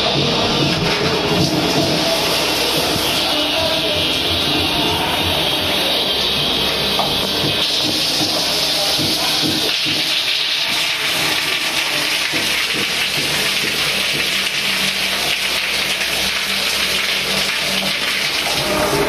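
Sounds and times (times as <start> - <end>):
shower water splashing on tiles: 0.0 - 19.0.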